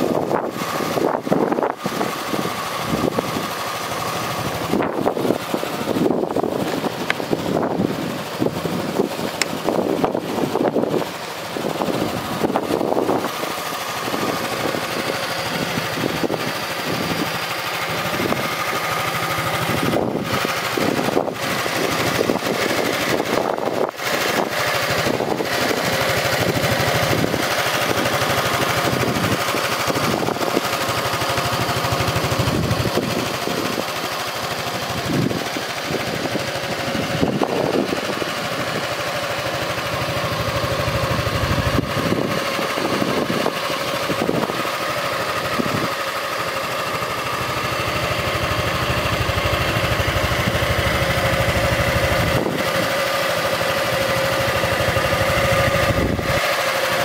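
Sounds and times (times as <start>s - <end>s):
scooter engine idling: 0.0s - 57.0s.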